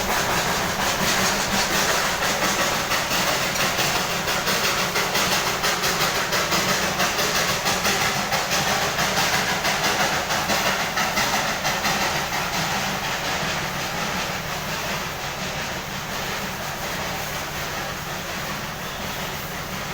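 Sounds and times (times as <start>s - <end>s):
steam hissing: 0.0s - 19.9s
steam locomotive chuffing: 0.0s - 19.9s.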